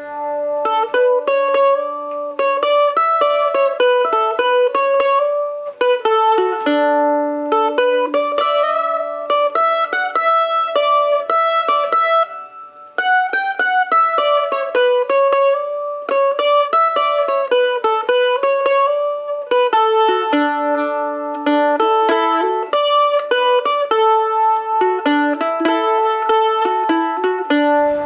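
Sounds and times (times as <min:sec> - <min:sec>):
plucked string instrument melody: 0:00.0 - 0:28.0.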